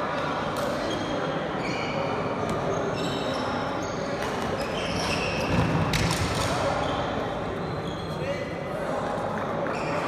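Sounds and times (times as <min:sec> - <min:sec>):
echoing hubbub in a hall: 0:00.0 - 0:10.0
shoes squeaking on court floor: 0:00.2 - 0:08.4, 0:09.6 - 0:10.0.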